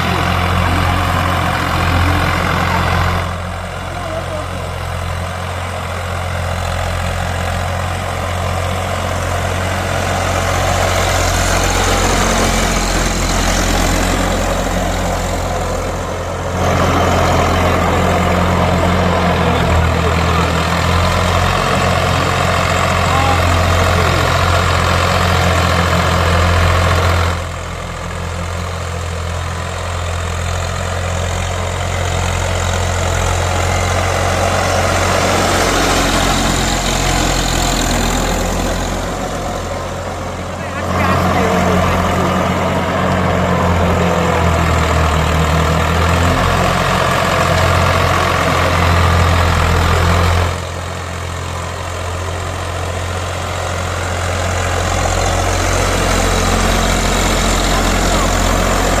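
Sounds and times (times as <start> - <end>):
tilling machine engine running: 0.0 - 59.0.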